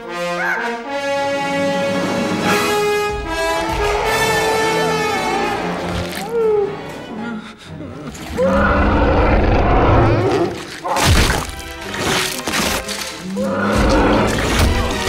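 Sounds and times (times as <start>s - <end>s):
dramatic film score music: 0.0s - 15.0s.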